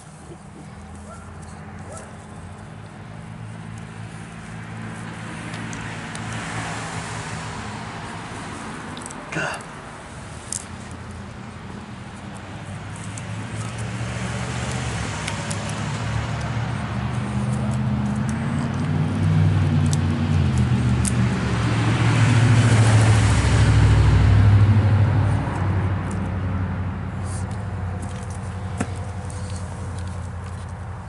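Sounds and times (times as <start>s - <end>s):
road vehicle passing: 0.0s - 31.0s.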